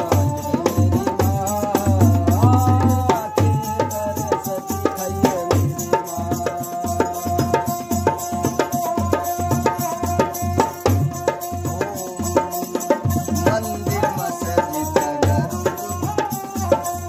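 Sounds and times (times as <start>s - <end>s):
barrel drum rhythm: 0.0s - 17.0s.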